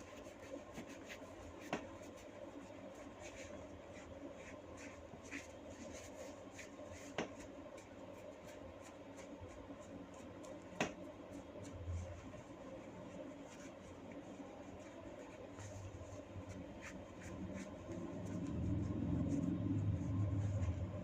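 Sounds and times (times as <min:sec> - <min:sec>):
hair crackling when rubbed: 0:00.0 - 0:21.0.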